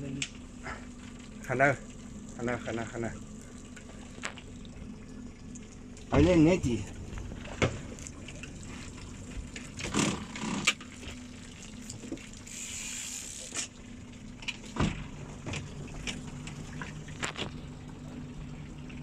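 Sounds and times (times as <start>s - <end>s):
steady low hum: 0.0s - 19.0s
water sloshing around boat: 0.0s - 19.0s.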